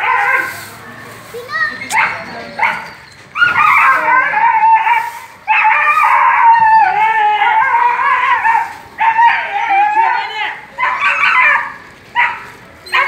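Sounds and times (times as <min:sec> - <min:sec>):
dog yelping and howling: 0:00.0 - 0:00.5, 0:02.0 - 0:13.0.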